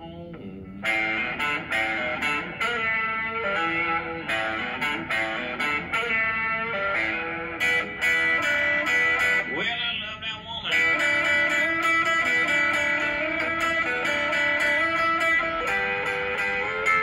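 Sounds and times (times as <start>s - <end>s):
electric guitar blues riff: 0.0s - 17.0s.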